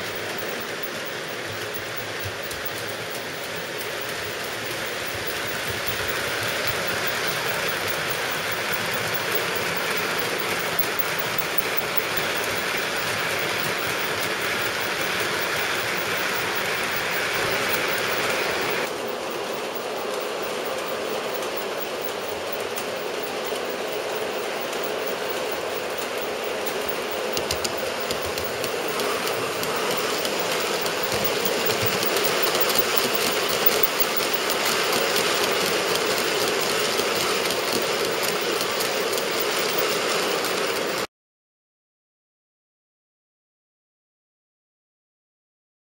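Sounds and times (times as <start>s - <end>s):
model train rumbling on track: 0.0s - 41.1s
wheels clicking over rail joints: 0.0s - 41.1s.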